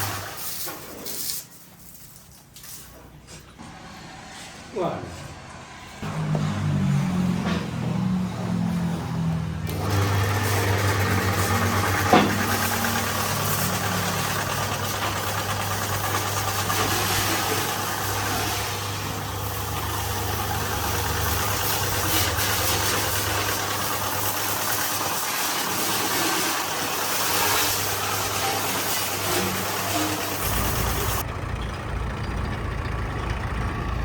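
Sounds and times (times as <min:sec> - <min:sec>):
diesel engine humming: 0:03.1 - 0:24.8, 0:27.7 - 0:34.0.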